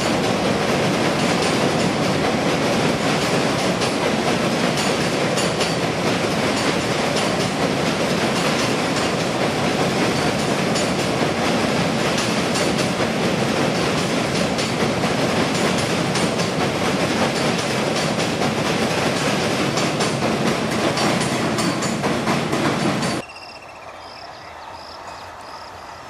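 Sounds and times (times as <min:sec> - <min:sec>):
train rumble on bridge: 0:00.0 - 0:23.2
wheels clattering over rail joints: 0:00.0 - 0:23.2.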